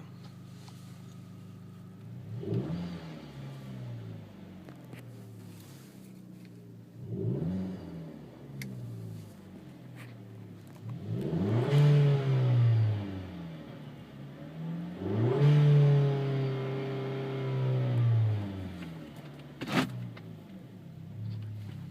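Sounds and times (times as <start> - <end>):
car engine accelerating: 0.0 - 21.9.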